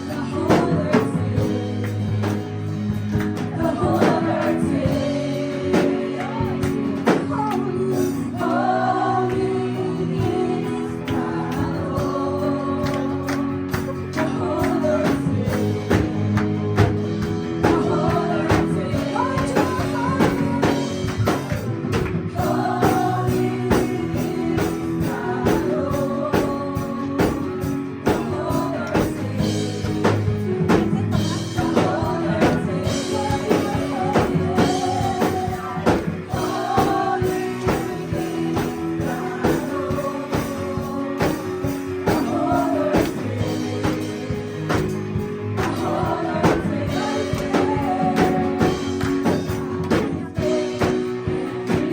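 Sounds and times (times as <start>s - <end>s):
band playing praise song: 0.0s - 51.9s
drum beat: 10.2s - 51.9s.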